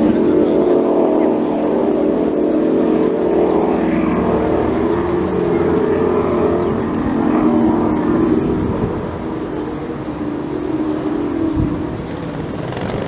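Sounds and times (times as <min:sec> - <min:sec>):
racing powerboat engines droning: 0:00.0 - 0:13.0.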